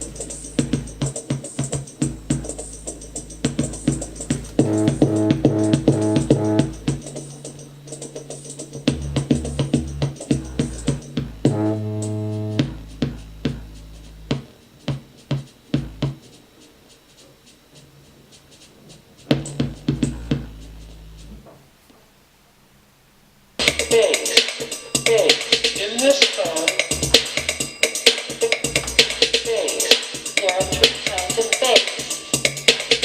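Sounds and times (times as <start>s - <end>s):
electronic music with drum-machine beat: 0.0s - 16.4s, 18.5s - 21.4s, 23.6s - 33.0s.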